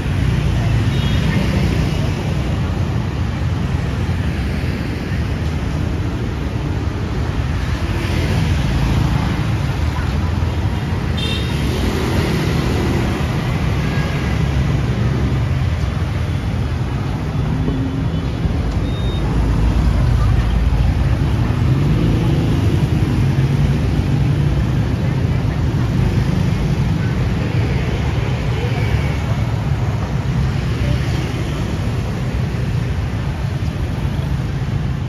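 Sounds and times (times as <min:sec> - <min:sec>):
city street traffic rumble: 0:00.0 - 0:35.0.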